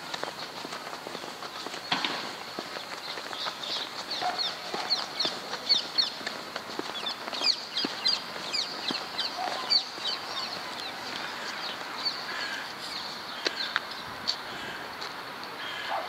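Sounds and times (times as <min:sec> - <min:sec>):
small birds chirping: 0:00.0 - 0:16.0
steady background noise: 0:00.0 - 0:16.0.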